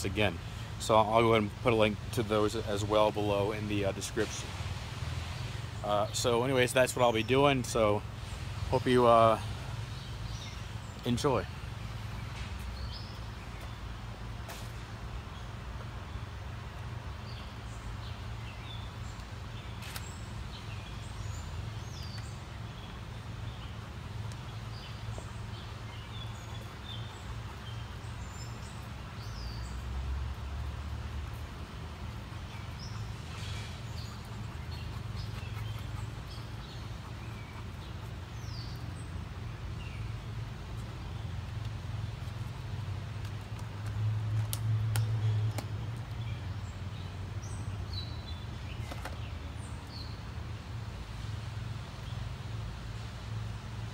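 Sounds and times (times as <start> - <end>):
birds chirping: 5.2 - 43.9, 44.8 - 50.4.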